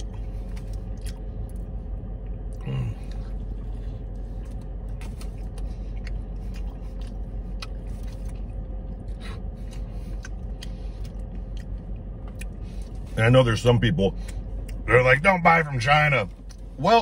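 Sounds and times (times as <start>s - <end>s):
man chewing food: 0.0s - 13.2s, 14.1s - 14.9s
low hum inside car: 0.0s - 17.0s.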